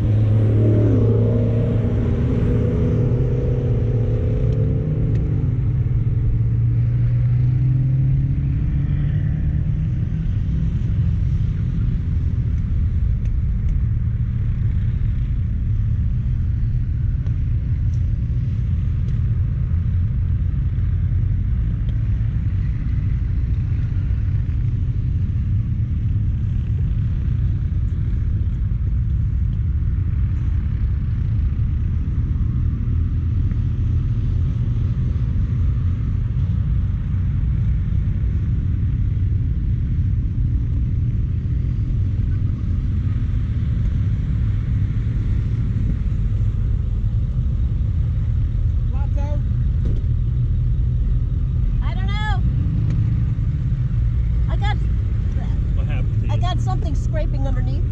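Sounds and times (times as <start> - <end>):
car interior engine rumble: 0.0 - 57.9.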